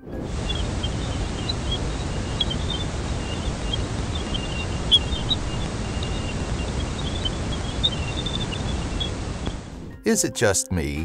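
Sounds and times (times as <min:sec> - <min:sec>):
static-like rumble: 0:00.0 - 0:10.0.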